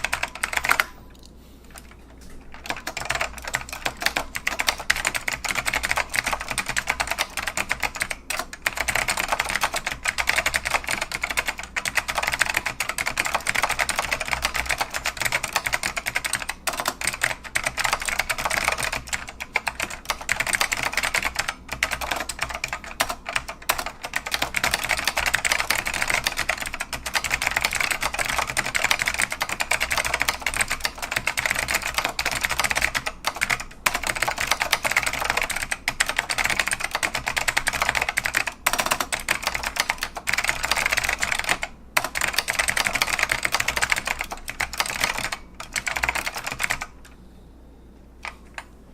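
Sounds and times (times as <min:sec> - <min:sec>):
mechanical keyboard typing: 0:00.0 - 0:47.1.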